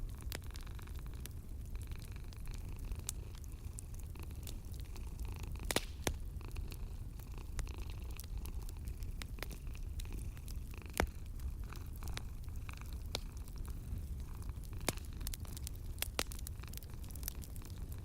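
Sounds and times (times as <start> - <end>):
cat purring: 0.0 - 18.0
wood fire crackling and popping: 0.0 - 18.0.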